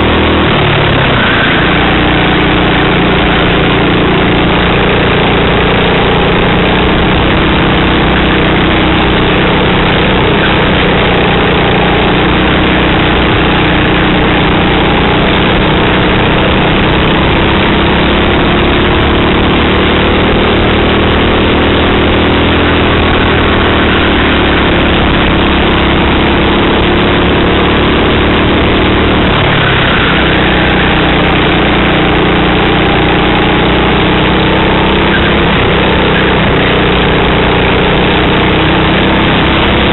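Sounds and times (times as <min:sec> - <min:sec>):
go-kart engine racing: 0:00.0 - 0:39.9.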